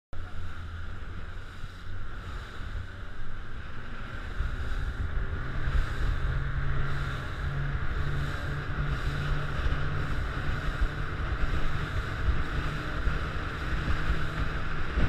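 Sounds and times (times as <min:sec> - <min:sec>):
boat engine droning: 0:00.1 - 0:15.0
water rushing along hull: 0:00.2 - 0:15.0
wind buffeting camera: 0:00.7 - 0:15.0.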